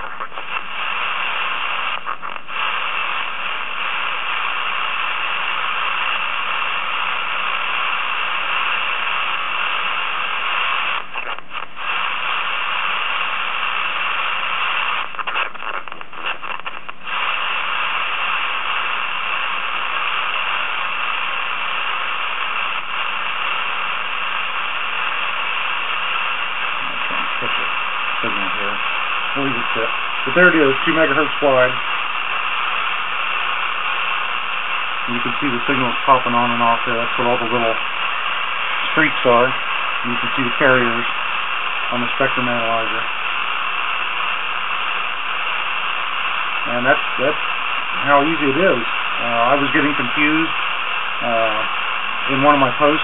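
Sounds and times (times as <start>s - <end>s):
radio static hiss: 0.0s - 53.0s.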